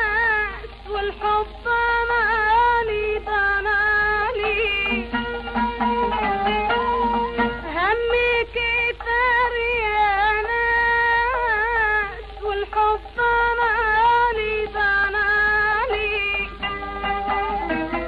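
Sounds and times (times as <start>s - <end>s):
woman singing melisma: 0.0s - 18.0s.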